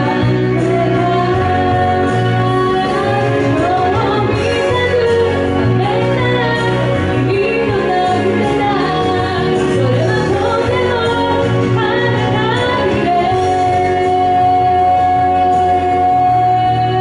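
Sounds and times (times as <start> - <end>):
band accompaniment: 0.0 - 17.0
woman singing into microphone: 0.0 - 17.0.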